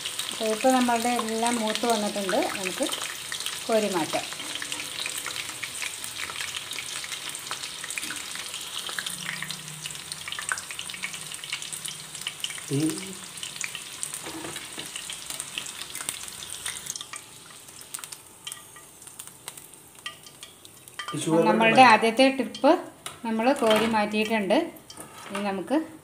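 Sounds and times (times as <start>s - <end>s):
chicken deep-frying in oil: 0.0s - 21.3s.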